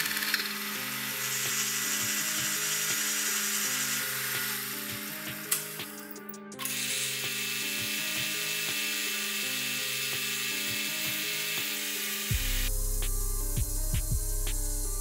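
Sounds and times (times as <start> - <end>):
milling machine cutting acrylic: 0.0 - 12.3
background music: 0.0 - 15.0.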